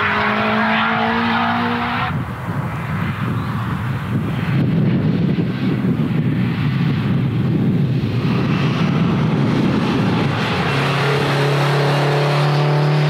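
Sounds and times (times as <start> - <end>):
car engine running hard: 0.0 - 13.0
road noise: 0.0 - 13.0.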